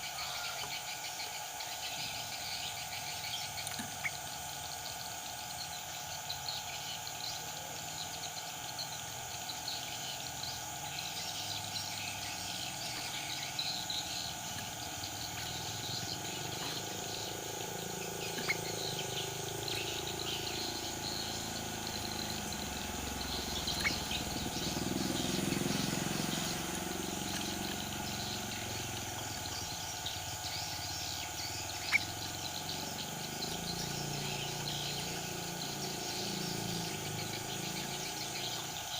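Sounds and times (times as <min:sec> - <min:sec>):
faint bird chirps: 0:00.0 - 0:38.9
insects droning: 0:00.0 - 0:38.9.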